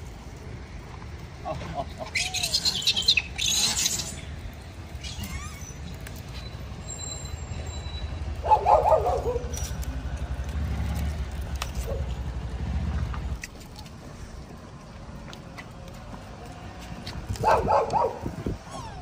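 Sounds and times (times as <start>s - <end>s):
motor vehicle rumbling: 0.0s - 19.0s.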